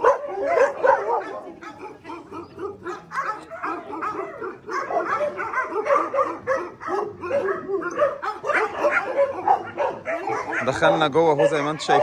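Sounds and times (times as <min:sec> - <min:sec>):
dogs barking and yipping: 0:00.0 - 0:12.0.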